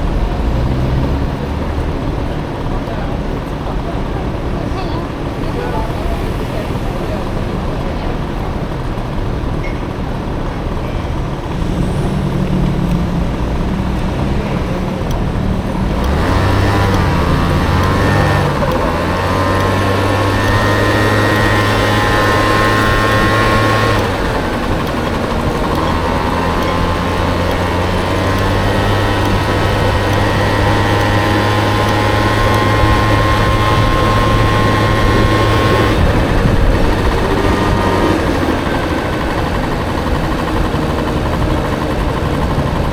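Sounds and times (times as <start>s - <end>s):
scooter engine accelerating: 0.0s - 42.9s.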